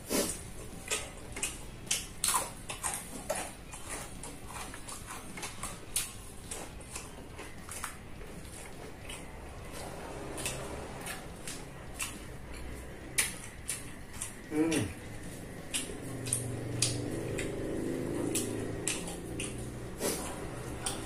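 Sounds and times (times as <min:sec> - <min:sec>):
mouth chewing with wet smacks: 0:00.0 - 0:21.0.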